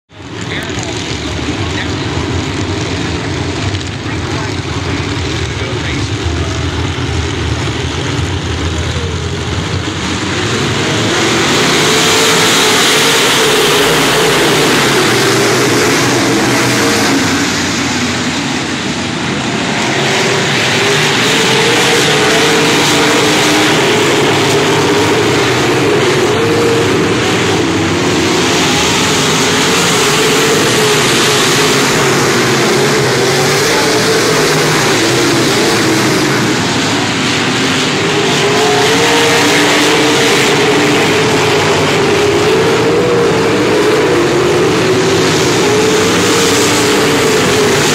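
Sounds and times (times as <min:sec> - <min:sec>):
race car engines at full throttle: 0:00.0 - 0:47.9.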